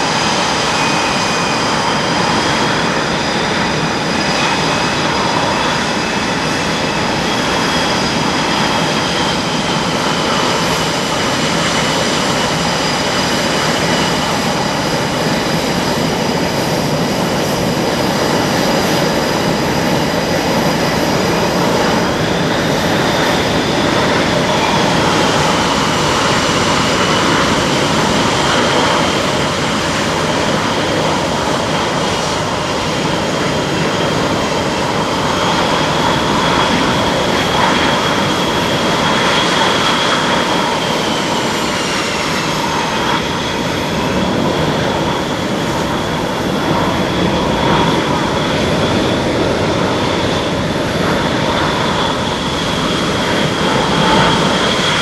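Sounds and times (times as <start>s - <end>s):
high turbine whine: 0.0s - 55.0s
jet engines rushing: 0.0s - 55.0s.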